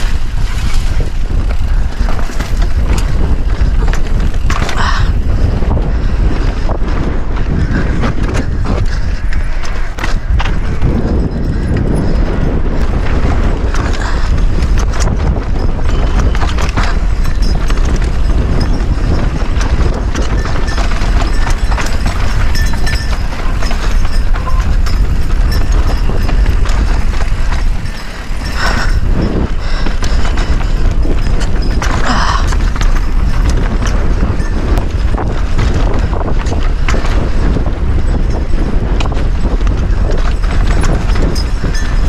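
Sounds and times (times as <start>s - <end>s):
bike rattling over rocks: 0.0s - 42.0s
wind rumble on microphone: 0.0s - 42.0s.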